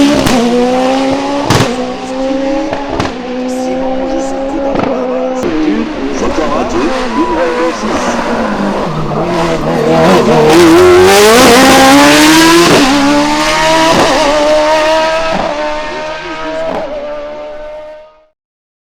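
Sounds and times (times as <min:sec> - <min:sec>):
race car accelerating through gears: 0:00.0 - 0:18.4.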